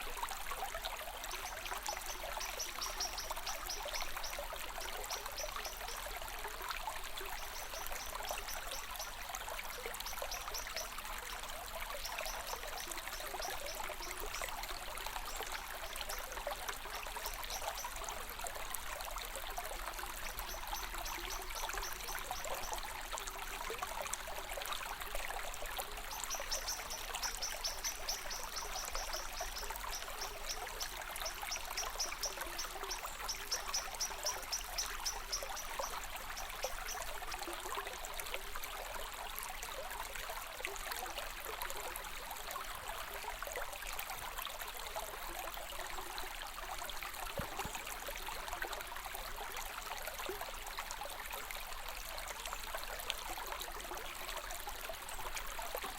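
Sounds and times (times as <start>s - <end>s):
stream water trickling: 0.0s - 55.9s.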